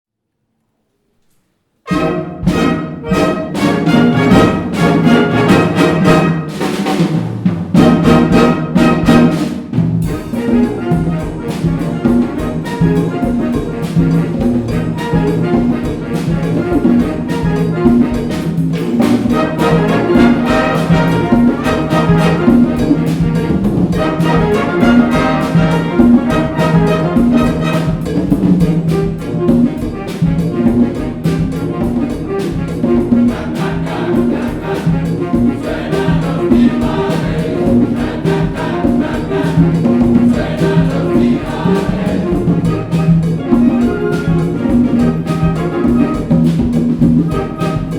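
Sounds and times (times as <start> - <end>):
brass with trumpets: 1.8 - 47.9
percussion rhythm: 1.9 - 47.9.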